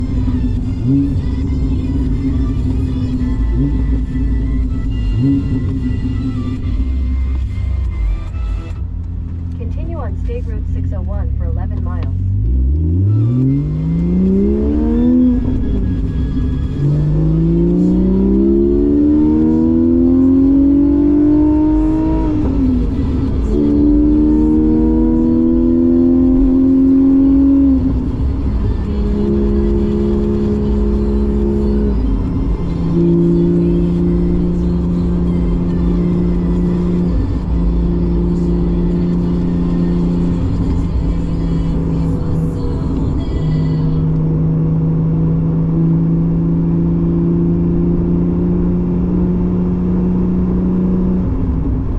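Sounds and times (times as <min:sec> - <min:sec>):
sports car engine accelerating: 0:00.0 - 0:51.9.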